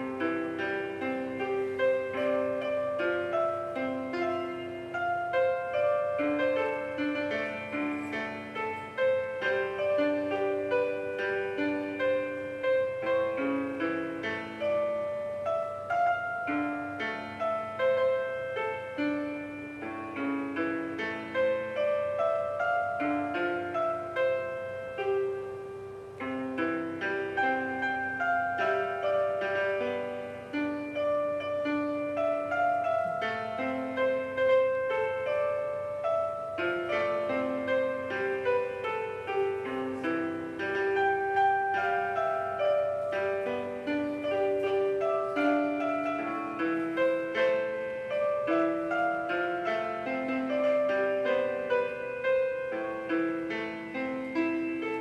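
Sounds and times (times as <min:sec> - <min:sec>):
electronic piano melody: 0:00.0 - 0:55.0.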